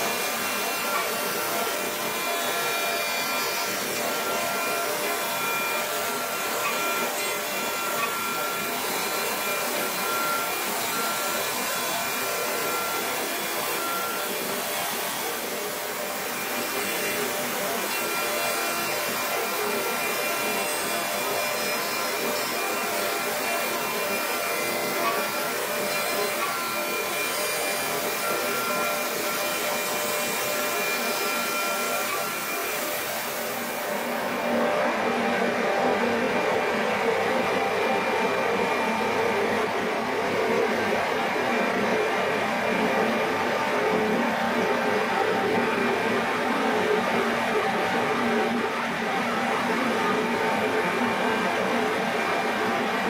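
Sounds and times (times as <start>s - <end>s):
router spindle cutting wood: 0.0s - 53.0s.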